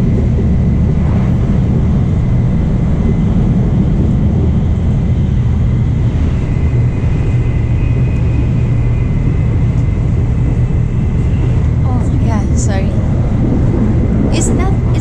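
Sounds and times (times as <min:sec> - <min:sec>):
faint high whine: 0:00.0 - 0:15.0
train low rumble: 0:00.0 - 0:15.0.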